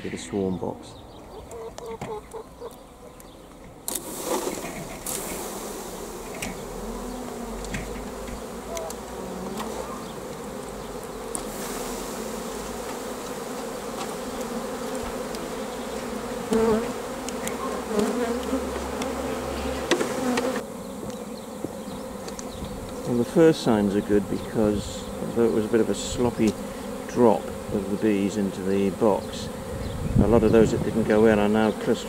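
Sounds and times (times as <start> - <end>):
bee swarm buzzing: 0.0 - 32.0.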